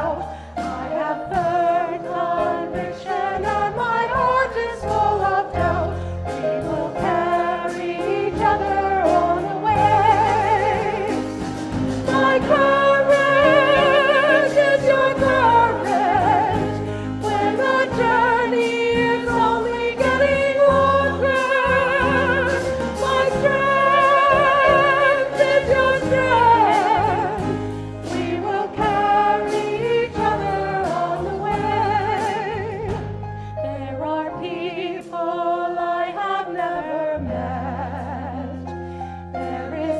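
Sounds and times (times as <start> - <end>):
instrumental accompaniment: 0.0 - 39.9
choir singing a hymn: 0.8 - 33.0, 33.7 - 38.7, 39.4 - 39.9.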